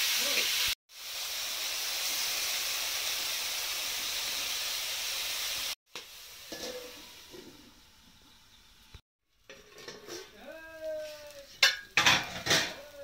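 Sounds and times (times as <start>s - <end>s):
fish sizzling in hot oil: 0.0s - 13.0s.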